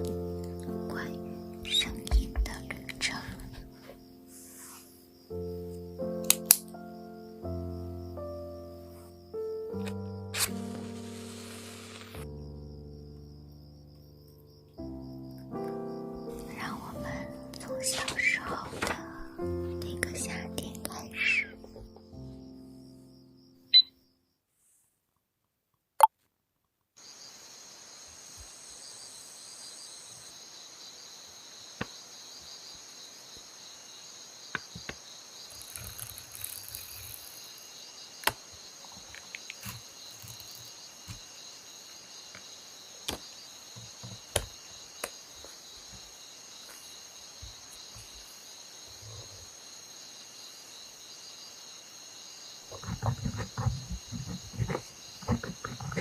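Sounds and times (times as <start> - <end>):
insect chorus: 0.0 - 24.4, 27.0 - 56.0.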